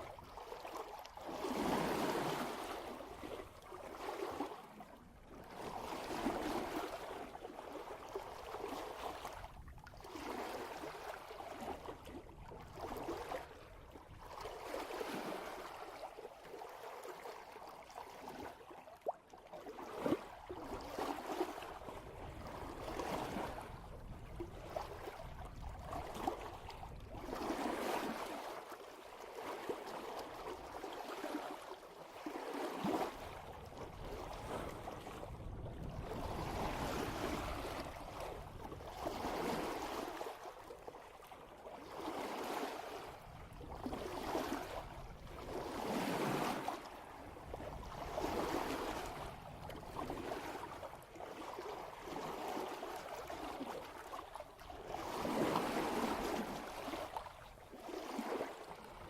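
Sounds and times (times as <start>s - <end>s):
water rushing past a boat: 0.0s - 59.0s.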